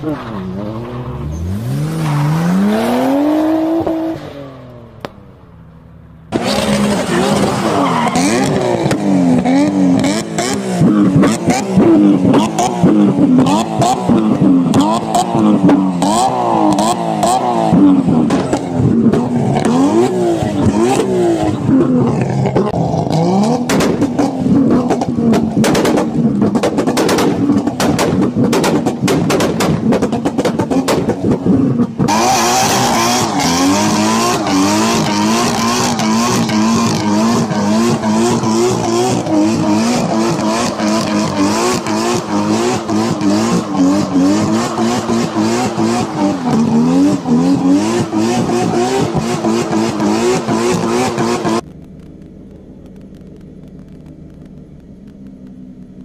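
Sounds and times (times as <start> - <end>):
car engine revving: 0.0 - 56.0
exhaust pops and bangs: 6.3 - 20.0, 21.8 - 56.0.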